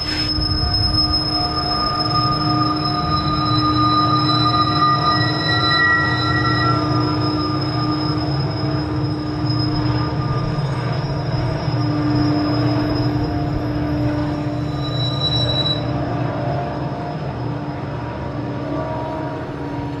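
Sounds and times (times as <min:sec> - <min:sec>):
freight train rumbling: 0:00.0 - 0:20.0
wheel squeal: 0:00.0 - 0:20.0.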